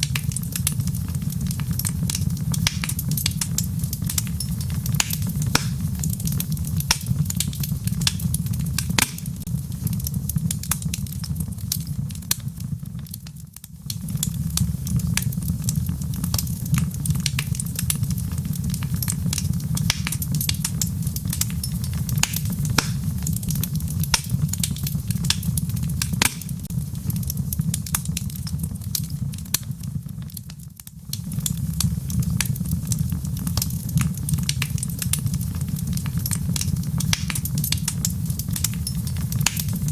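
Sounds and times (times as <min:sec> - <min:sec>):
logs crackling and popping: 0:00.0 - 0:39.9
low fire rumble: 0:00.0 - 0:39.9.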